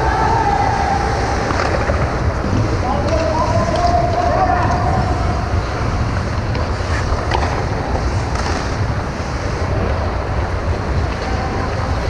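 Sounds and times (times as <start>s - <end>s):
ice rink rushing rumbling noise: 0.0s - 12.0s.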